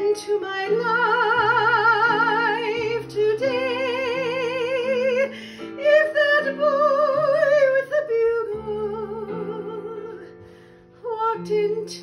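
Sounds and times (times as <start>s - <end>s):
woman singing with vibrato: 0.0s - 10.4s, 11.0s - 12.0s.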